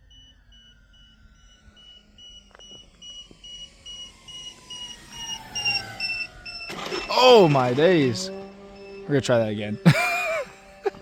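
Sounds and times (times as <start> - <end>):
model airplane motor whine: 0.0 - 11.0.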